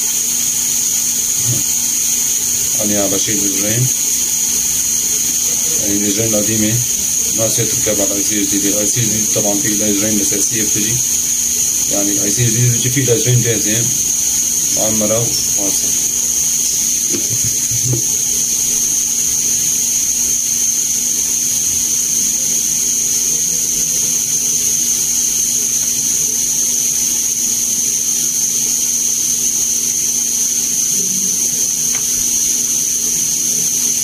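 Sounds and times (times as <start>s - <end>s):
constant hiss: 0.0s - 34.0s
high-pitched electric whine: 0.0s - 34.0s.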